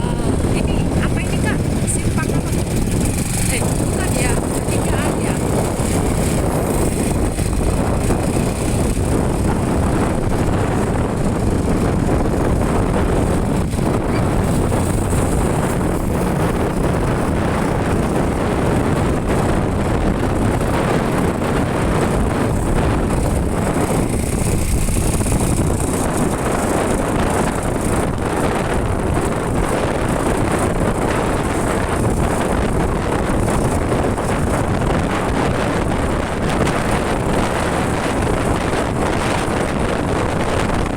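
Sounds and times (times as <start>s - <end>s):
motorcycle engine: 0.0s - 40.9s
road noise: 0.0s - 40.9s
wind rushing over microphone: 0.0s - 40.9s.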